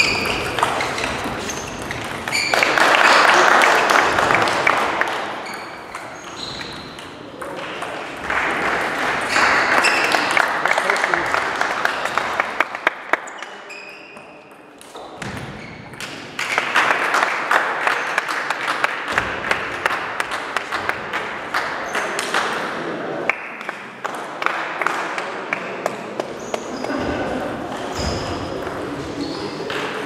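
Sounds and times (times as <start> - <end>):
table tennis rally: 0.0 - 30.0.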